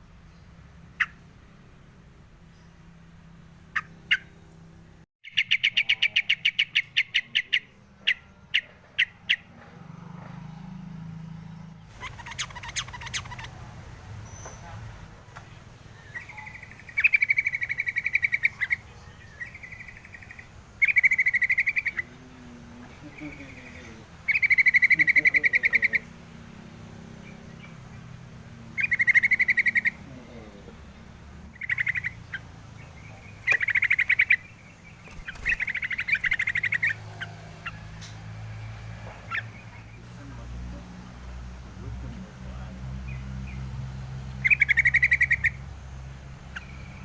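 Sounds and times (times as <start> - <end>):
bird buzzy trilled calls: 0.0 - 1.4, 3.6 - 4.6, 5.2 - 9.6, 11.1 - 15.0, 15.8 - 41.7, 42.5 - 47.0.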